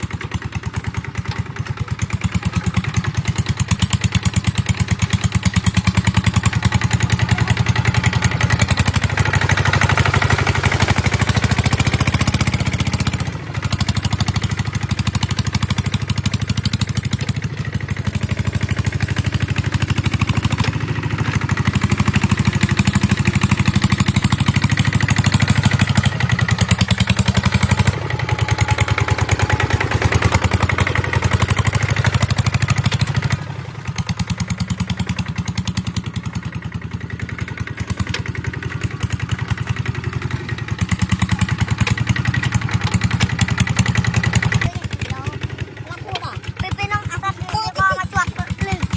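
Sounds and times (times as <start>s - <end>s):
diesel tractor engine chugging: 0.0s - 48.9s.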